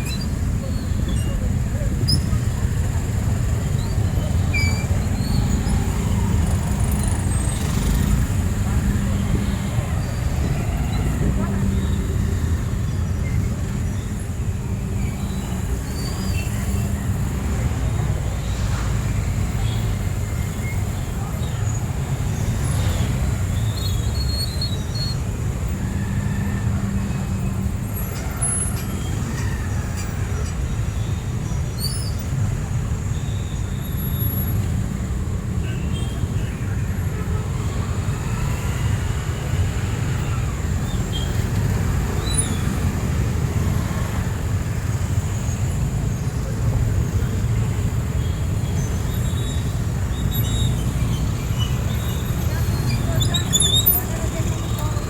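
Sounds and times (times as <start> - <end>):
traffic rumbling on wet road: 0.0 - 55.0.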